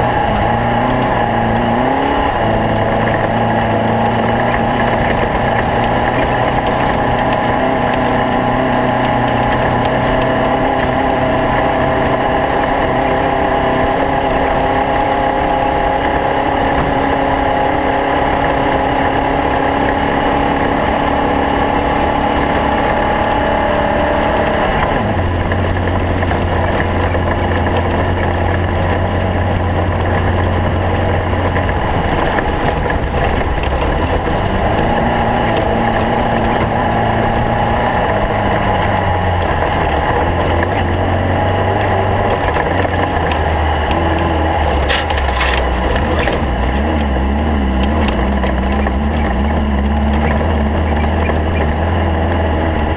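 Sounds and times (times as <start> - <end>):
race car engine running hard: 0.0 - 52.9.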